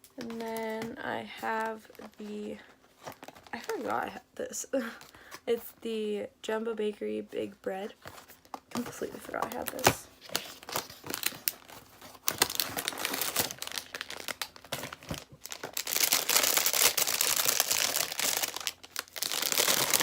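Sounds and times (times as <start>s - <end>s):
plastic packaging crinkling: 0.0s - 4.2s, 7.8s - 20.0s.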